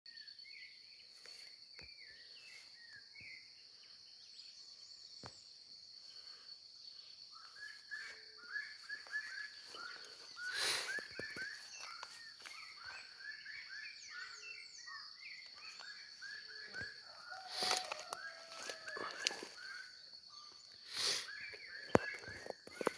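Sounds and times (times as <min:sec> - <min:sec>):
insect drone: 0:00.1 - 0:22.9
birds chirping: 0:01.1 - 0:22.9.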